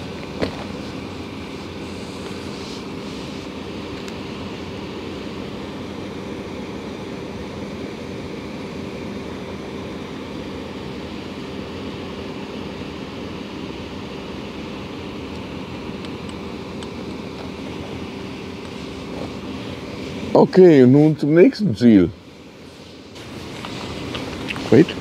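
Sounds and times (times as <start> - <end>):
low hum of held tones: 0.0 - 25.0
steady rushing noise: 0.0 - 25.0.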